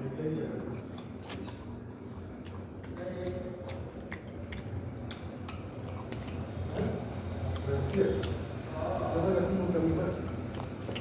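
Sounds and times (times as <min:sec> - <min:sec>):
person chewing with wet smacks: 0:00.4 - 0:11.0.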